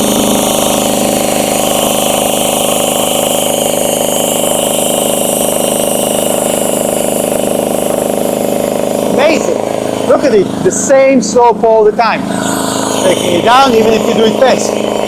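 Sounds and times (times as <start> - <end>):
engine running steadily: 0.0 - 15.0
hydraulic loader arms moving: 0.0 - 15.0.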